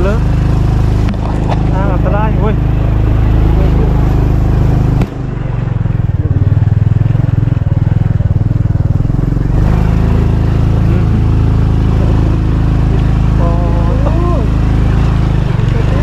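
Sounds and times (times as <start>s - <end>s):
vehicle engine labouring: 0.0s - 16.0s.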